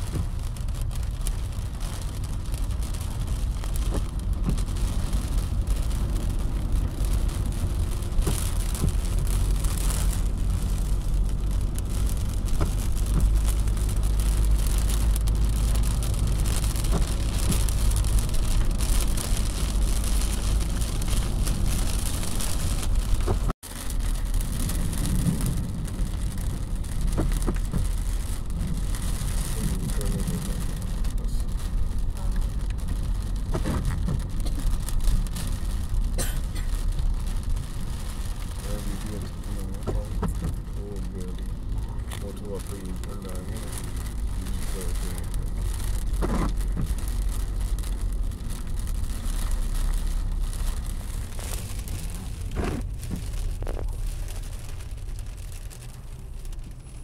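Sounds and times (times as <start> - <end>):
engine and road rumble: 0.0 - 57.0
rain on car: 0.0 - 57.0.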